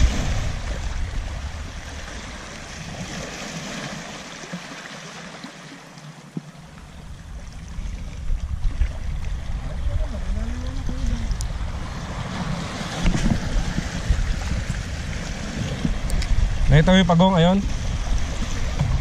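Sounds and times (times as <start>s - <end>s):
wind rumble on microphone: 0.0s - 4.1s, 6.6s - 19.0s
waves splashing over rocks: 0.0s - 19.0s.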